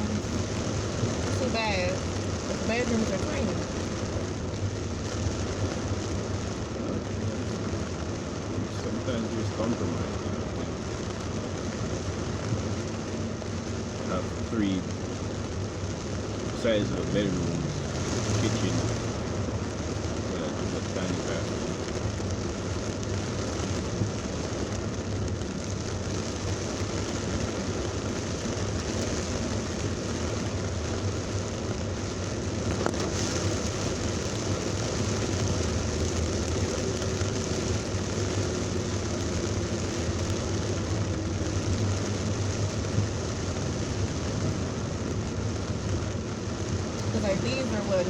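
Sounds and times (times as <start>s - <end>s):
car engine hum: 0.0s - 48.0s
heavy rain on a car: 0.0s - 48.0s
road noise: 0.0s - 48.0s.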